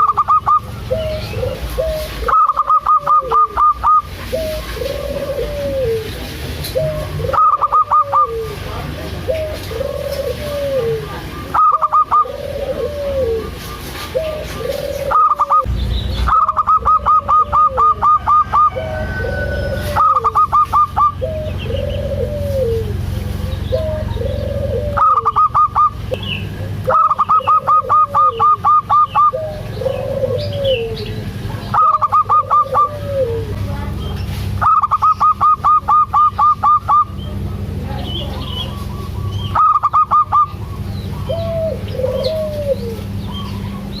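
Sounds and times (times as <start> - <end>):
dove cooing: 0.0 - 15.7, 16.3 - 33.9, 34.5 - 44.0
steady low hum: 0.0 - 44.0.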